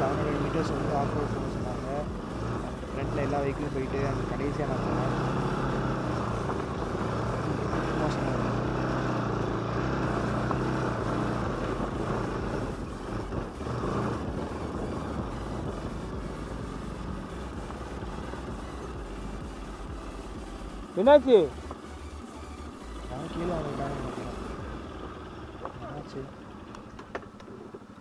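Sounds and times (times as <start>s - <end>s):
motorcycle engine at low revs: 0.0s - 28.0s.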